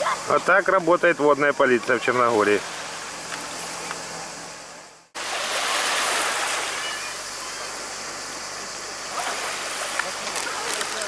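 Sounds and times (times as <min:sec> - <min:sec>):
small waves washing on shore: 0:00.0 - 0:04.1, 0:05.2 - 0:11.0.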